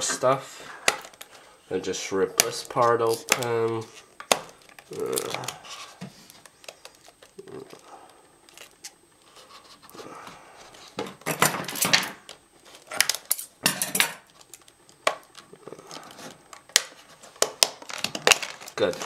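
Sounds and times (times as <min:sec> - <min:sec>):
plastic packaging clicking and crackling: 0:00.0 - 0:01.4, 0:02.2 - 0:10.0, 0:10.7 - 0:19.0.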